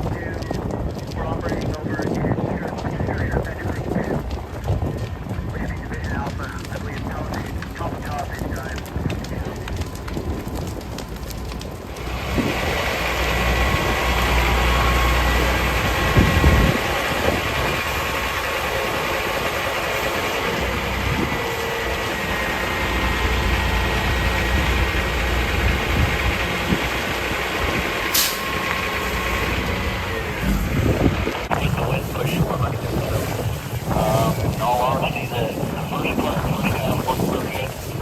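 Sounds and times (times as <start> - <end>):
diesel engine rumbling: 0.0 - 38.0.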